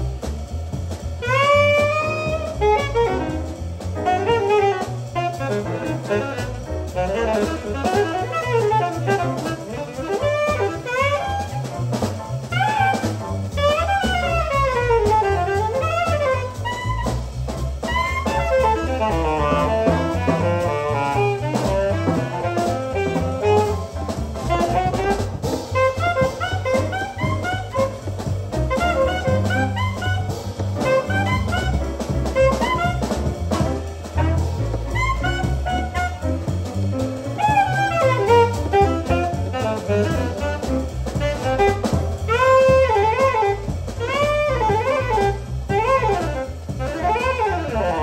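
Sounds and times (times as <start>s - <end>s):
double bass: 0.0s - 48.0s
drum kit: 0.0s - 48.0s
piano: 0.0s - 48.0s
saxophone fast runs: 1.2s - 48.0s.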